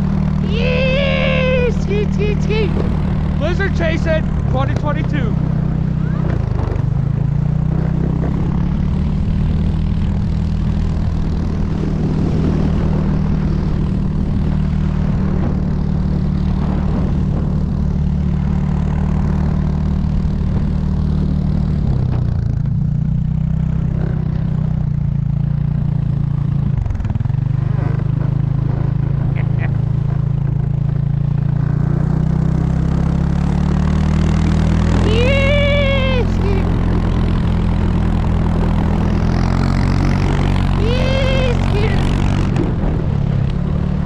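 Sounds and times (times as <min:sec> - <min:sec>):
vehicle engine droning: 0:00.0 - 0:44.0.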